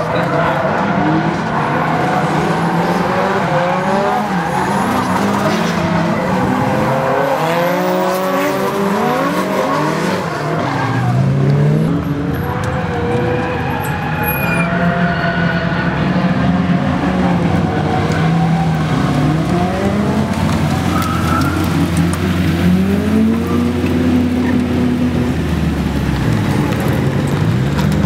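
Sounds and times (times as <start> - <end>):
car engines revving hard: 0.0 - 28.0
tyres skidding and squealing: 0.0 - 28.0.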